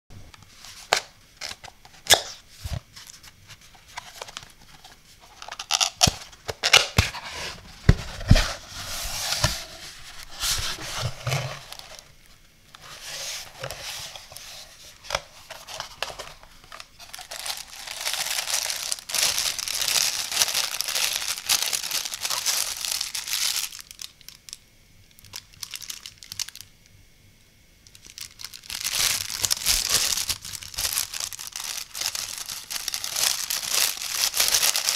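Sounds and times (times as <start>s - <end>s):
plastic packaging crinkling: 0.6s - 7.2s, 8.0s - 12.1s, 12.7s - 26.7s, 27.8s - 34.9s.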